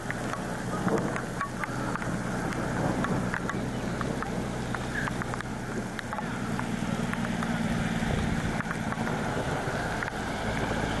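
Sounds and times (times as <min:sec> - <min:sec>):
light ticks: 0:00.0 - 0:07.6, 0:08.4 - 0:10.8
truck diesel engine hum: 0:00.0 - 0:11.0
tyres hissing through slush: 0:00.0 - 0:11.0.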